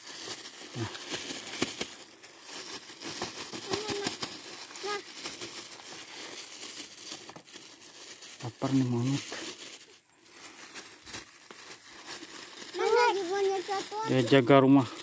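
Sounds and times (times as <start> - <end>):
crinkling and crackles of handling: 0.0 - 15.0.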